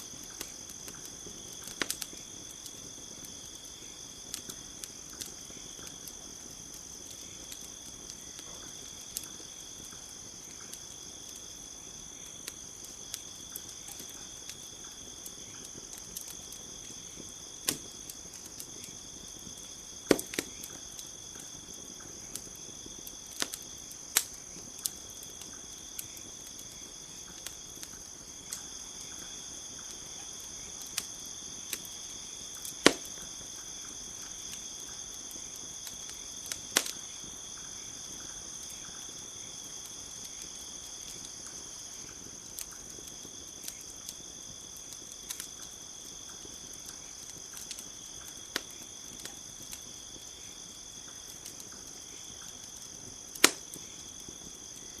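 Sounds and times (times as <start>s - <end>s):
campfire crackling: 0.0s - 55.0s
night insects chorus: 0.0s - 55.0s.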